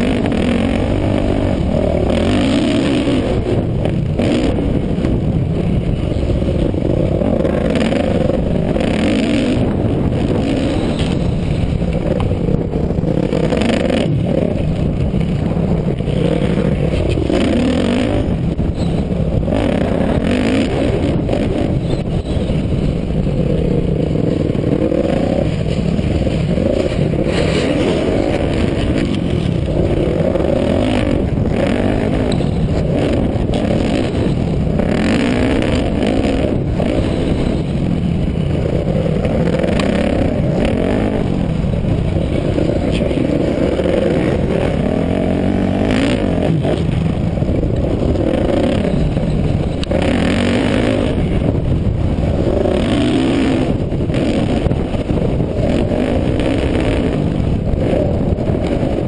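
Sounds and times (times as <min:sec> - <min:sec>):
dirt bike engine revving: 0:00.0 - 0:59.0
wind rush on microphone: 0:00.0 - 0:59.0.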